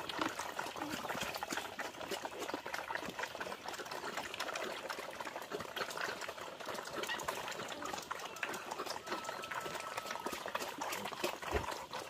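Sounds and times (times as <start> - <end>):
animals chomping wet food: 0.0 - 12.0.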